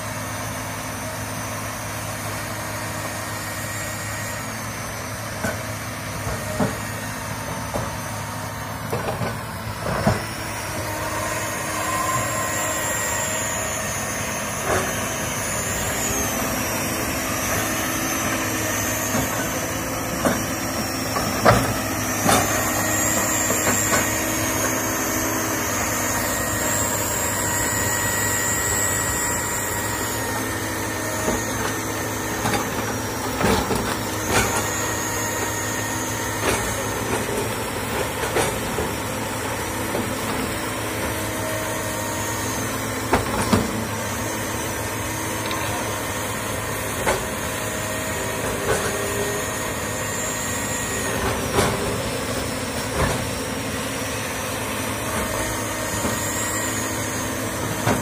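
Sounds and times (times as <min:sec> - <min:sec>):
excavator diesel engine running: 0:00.0 - 0:58.0
high wavering whine: 0:09.7 - 0:58.0.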